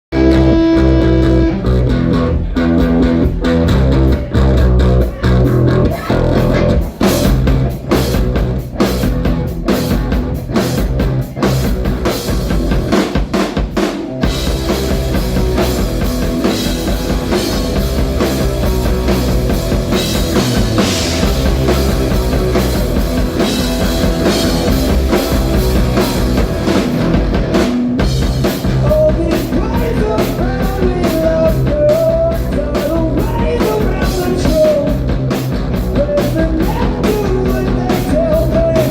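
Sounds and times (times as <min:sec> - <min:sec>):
drum accents: 0:00.1 - 0:38.9
rock band playing: 0:00.1 - 0:38.9.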